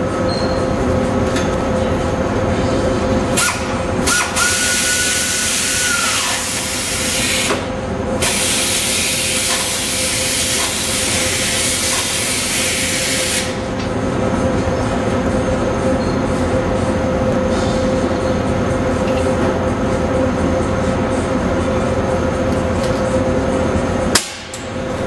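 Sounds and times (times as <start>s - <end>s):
steady workshop hum: 0.0s - 25.0s.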